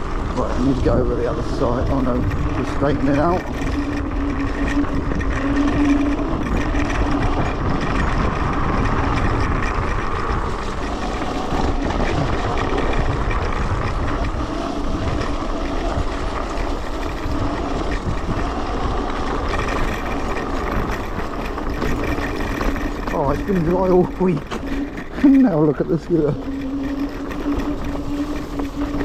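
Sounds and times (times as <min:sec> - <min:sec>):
electric scooter tyre and motor: 0:00.0 - 0:29.0
wind on microphone: 0:00.0 - 0:29.0.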